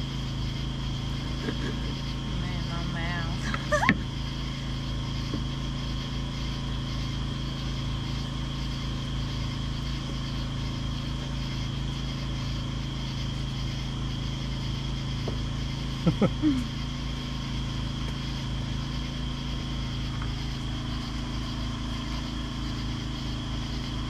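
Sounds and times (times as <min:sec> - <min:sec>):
motor humming with high whine: 0:00.0 - 0:24.0.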